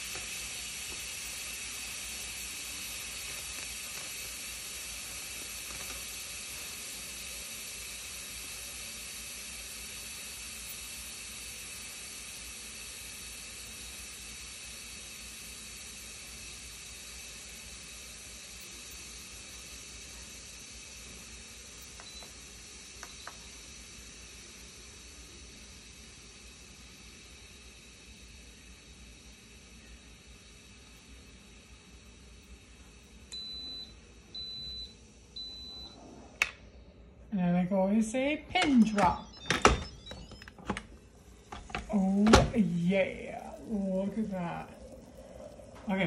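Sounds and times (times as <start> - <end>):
pressure cooker steam hissing: 0.0 - 36.8, 37.4 - 46.0.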